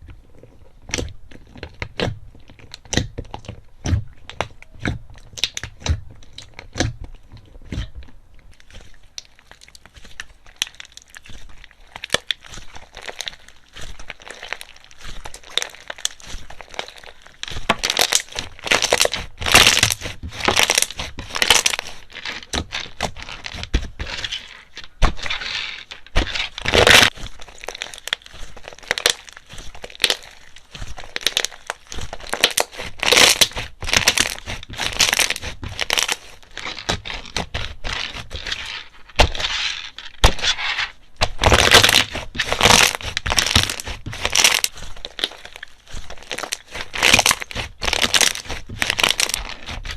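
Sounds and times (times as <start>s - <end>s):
slime crackling and popping: 0.0s - 40.5s, 41.2s - 49.9s.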